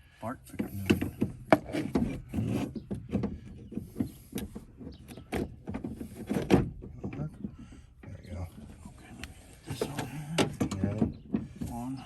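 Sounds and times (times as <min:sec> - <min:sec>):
scraping and rubbing: 0:00.5 - 0:12.0
sharp clicks and knocks: 0:00.5 - 0:12.0.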